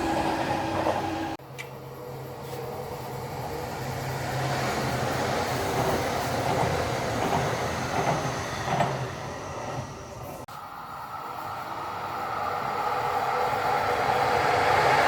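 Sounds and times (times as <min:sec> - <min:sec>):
rail and wheel noise: 0:00.0 - 0:15.0
train low hum: 0:00.0 - 0:15.0.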